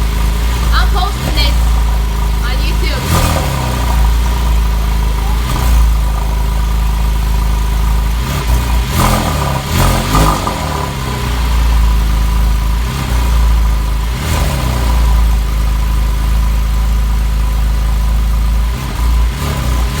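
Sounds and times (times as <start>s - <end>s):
car exhaust idling: 0.0s - 20.0s.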